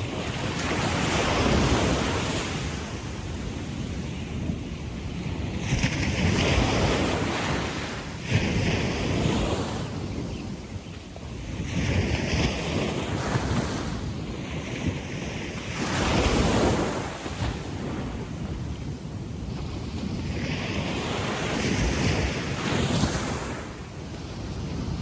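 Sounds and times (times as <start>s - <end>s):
small waves breaking on beach: 0.0s - 25.0s.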